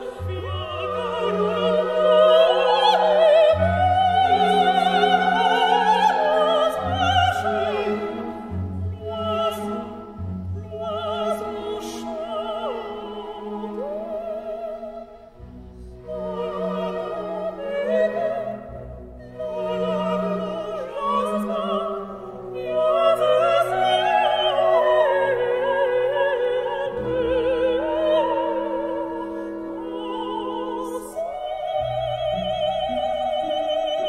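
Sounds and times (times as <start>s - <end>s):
orchestra playing: 0.0s - 34.0s.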